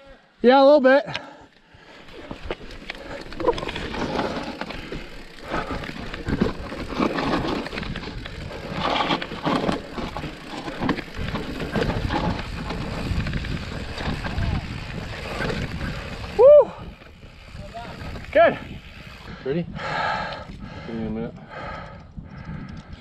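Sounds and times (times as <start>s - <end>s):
bike tyres sliding over dirt: 1.6s - 20.8s
bike rattling over bumps: 1.7s - 20.9s.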